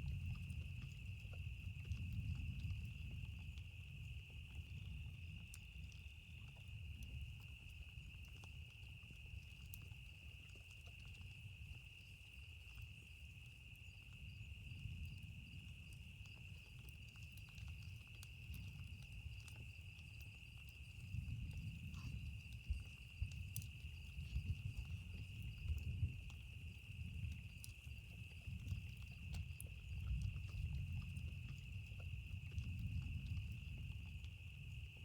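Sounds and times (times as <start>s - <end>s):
campfire crackling: 0.0s - 35.0s
crickets droning: 0.0s - 35.0s.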